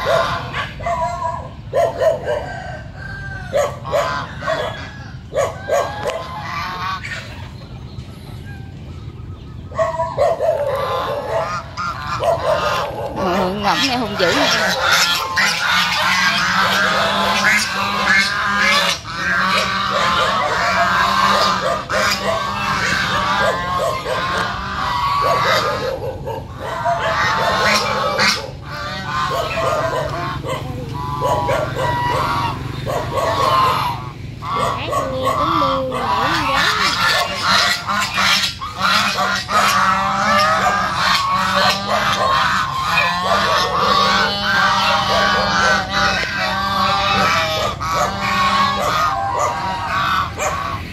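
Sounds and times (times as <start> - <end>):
geese honking: 0.0 - 50.9.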